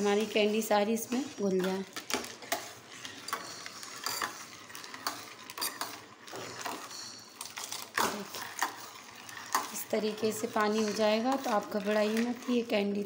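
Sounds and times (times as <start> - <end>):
ladle scraping and clinking on pot: 0.0 - 13.0.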